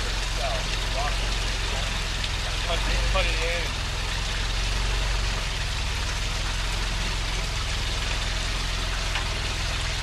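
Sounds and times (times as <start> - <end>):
constant hiss: 0.0 - 10.0
engine idling: 0.0 - 10.0.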